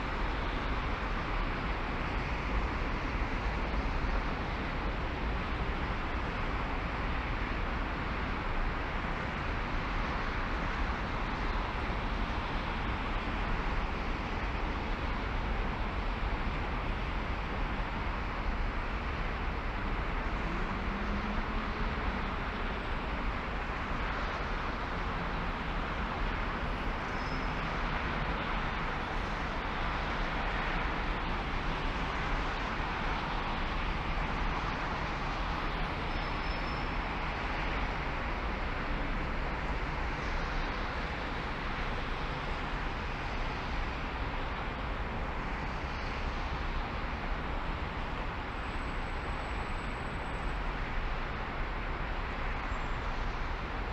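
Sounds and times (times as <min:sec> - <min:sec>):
road and tyre noise: 0:00.0 - 0:53.9.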